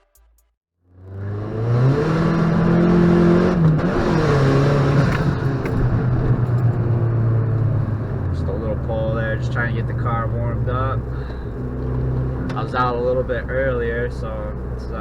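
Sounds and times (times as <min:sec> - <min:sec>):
car engine revving: 0:00.9 - 0:15.0.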